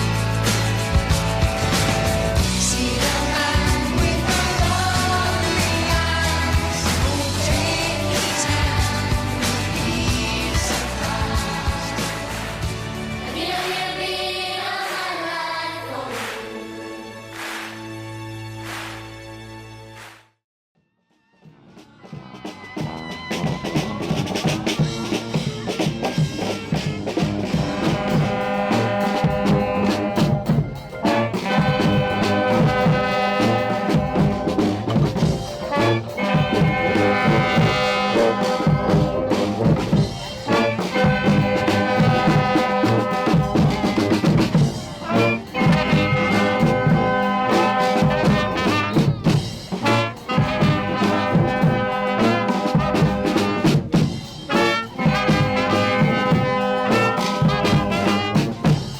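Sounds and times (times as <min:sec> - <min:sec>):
brass band playing: 0:00.0 - 0:14.4, 0:15.9 - 0:20.2, 0:21.7 - 0:58.9
drums: 0:00.0 - 0:17.9, 0:18.6 - 0:19.1, 0:21.1 - 0:58.9.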